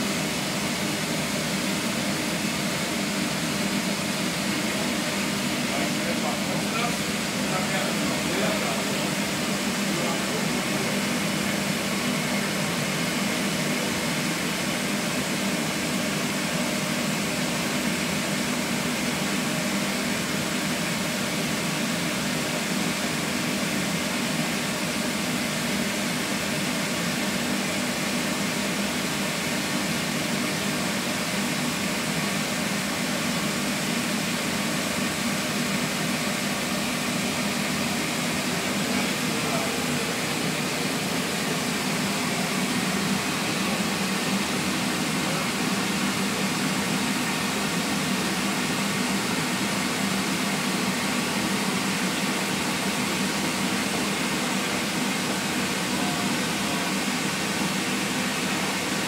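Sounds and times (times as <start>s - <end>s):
inflation blower fan running: 0.0s - 59.0s.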